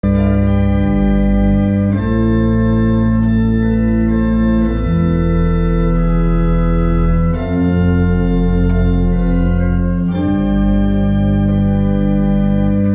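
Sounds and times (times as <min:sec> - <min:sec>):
pipe organ playing chords: 0:00.0 - 0:12.9.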